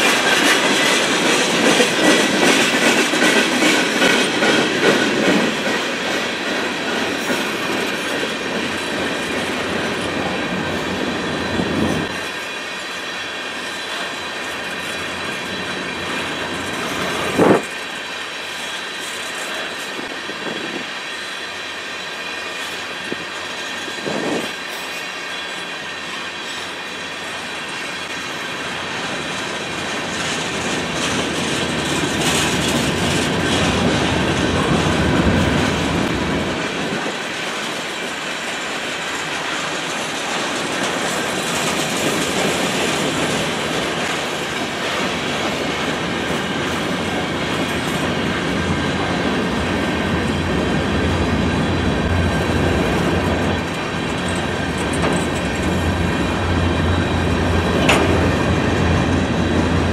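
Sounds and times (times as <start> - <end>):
freight train wheels rumbling: 0.0 - 59.9
train wheel clacks: 0.0 - 59.9.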